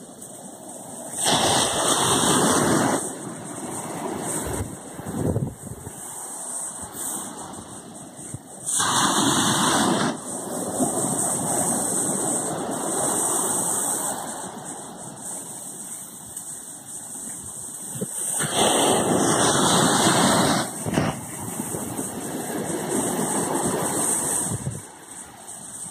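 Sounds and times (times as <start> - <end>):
sea waves washing on shore: 0.0 - 25.9.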